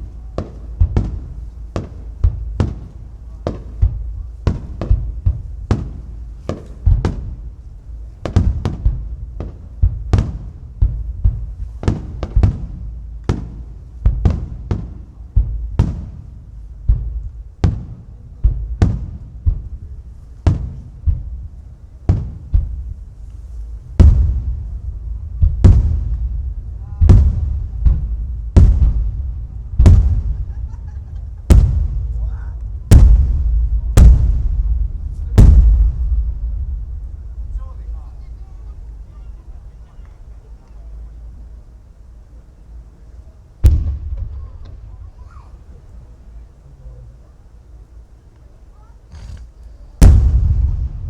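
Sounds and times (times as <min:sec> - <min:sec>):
echoing booms: 0:00.0 - 0:41.6, 0:43.6 - 0:45.7, 0:49.9 - 0:51.0
fireworks bursting: 0:00.0 - 0:46.4, 0:48.2 - 0:51.0.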